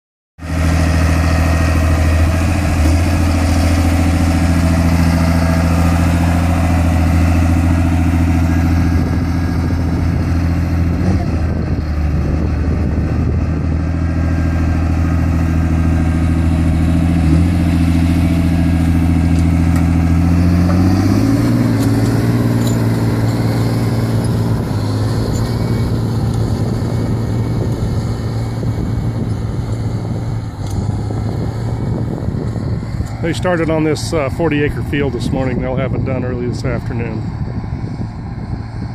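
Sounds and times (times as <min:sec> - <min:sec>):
tractor diesel engine running: 0:00.4 - 0:38.9.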